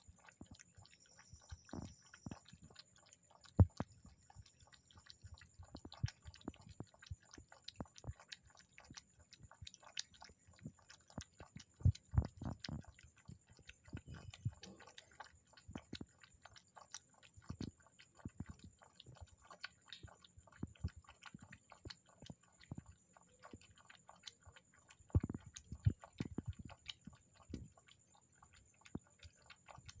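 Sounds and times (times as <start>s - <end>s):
puppy lapping from metal basin: 0.0s - 30.0s.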